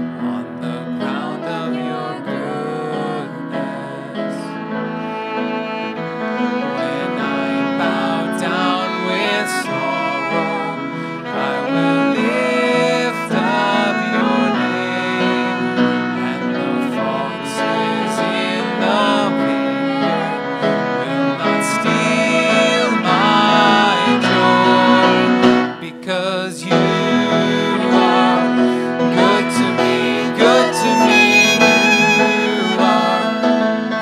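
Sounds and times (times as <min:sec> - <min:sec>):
grand piano chords: 0:00.0 - 0:34.0
violin slow melody: 0:00.0 - 0:34.0.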